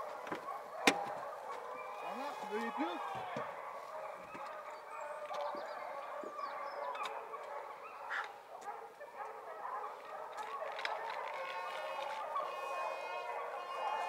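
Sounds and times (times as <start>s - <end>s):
many animals calling: 0.0s - 8.4s, 10.4s - 14.0s.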